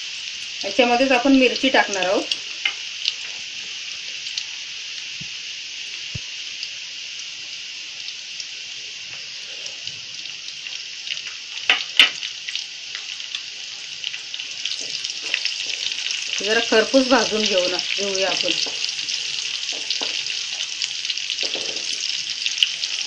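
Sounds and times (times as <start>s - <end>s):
seeds sizzling in hot oil: 0.0s - 23.0s.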